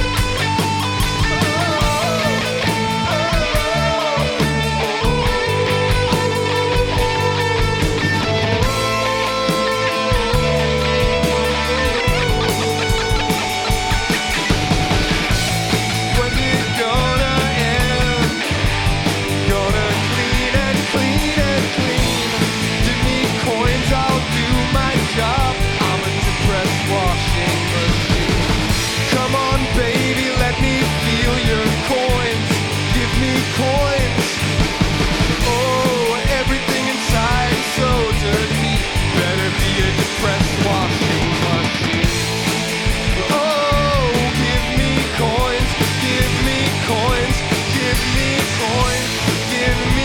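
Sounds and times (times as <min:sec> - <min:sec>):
lead guitar line bending: 0:00.0 - 0:50.0
live rock band playing: 0:00.0 - 0:50.0.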